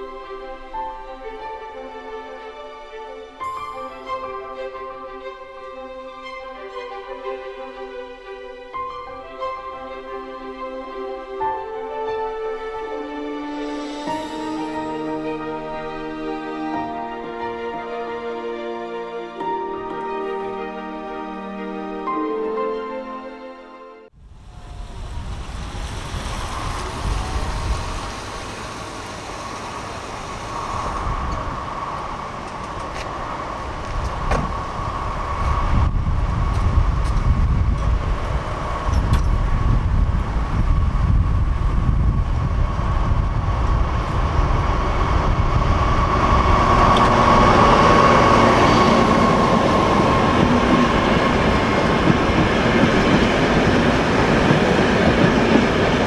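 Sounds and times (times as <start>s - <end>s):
diesel train passing: 0.0s - 56.0s.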